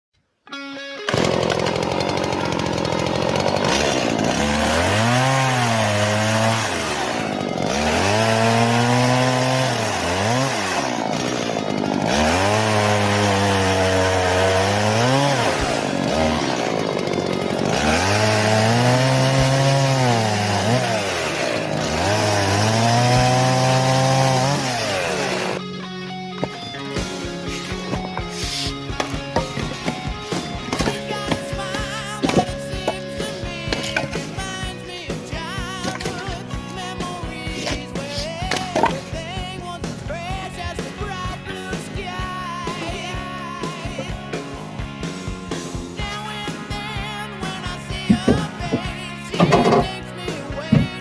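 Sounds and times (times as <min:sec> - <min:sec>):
chainsaw cutting wood: 0:01.0 - 0:51.0.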